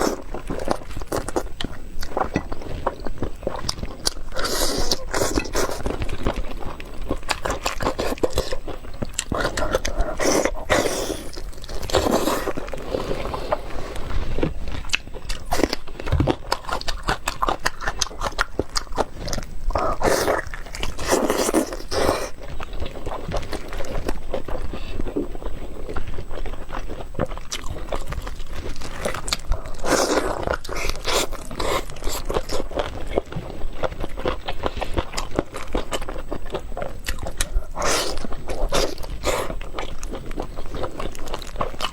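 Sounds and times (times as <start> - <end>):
person chewing and crunching food: 0.0 - 41.9.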